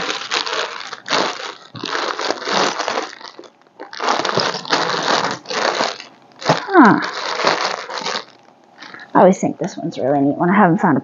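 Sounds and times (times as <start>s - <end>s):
hands rummaging through buttons: 0.0s - 9.0s.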